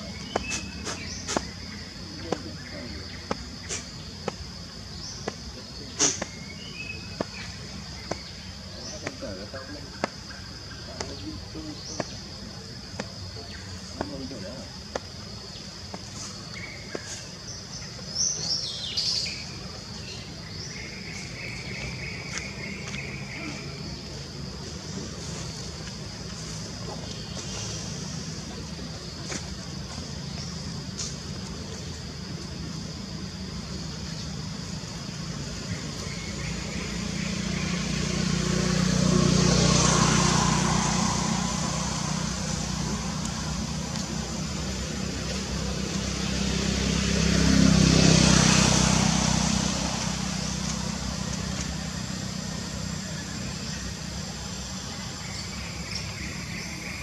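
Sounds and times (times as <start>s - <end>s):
motor vehicle passing: 0.0s - 29.0s, 32.2s - 57.0s
low engine hum: 0.0s - 56.9s
high insect drone: 0.0s - 57.0s.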